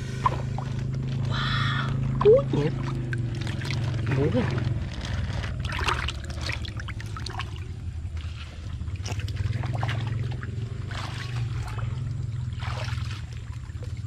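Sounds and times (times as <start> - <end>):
muddy water splashing: 0.0 - 14.0
steady low hum: 0.0 - 14.0.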